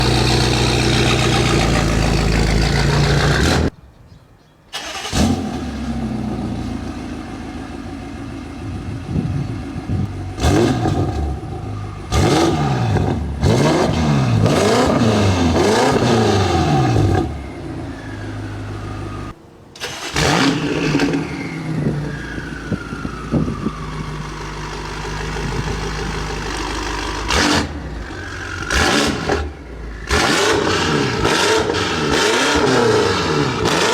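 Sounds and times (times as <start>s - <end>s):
car engine revving: 0.0s - 3.7s, 9.8s - 33.9s.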